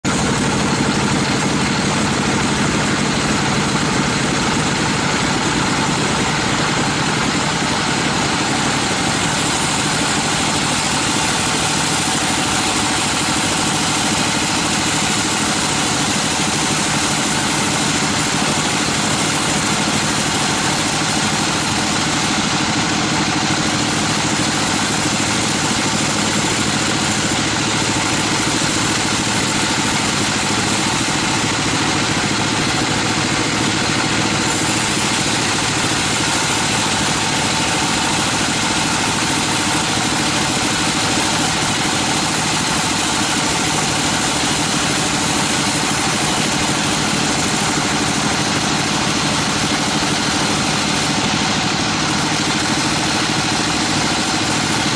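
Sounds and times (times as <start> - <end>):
band saw cutting log: 0.0 - 54.9.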